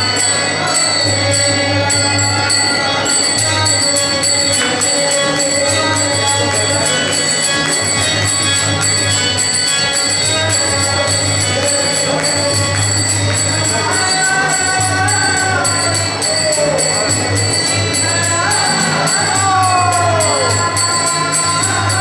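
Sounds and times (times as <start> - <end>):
man singing into a microphone: 0.0 - 22.0
metallic jingling beat: 0.0 - 22.0.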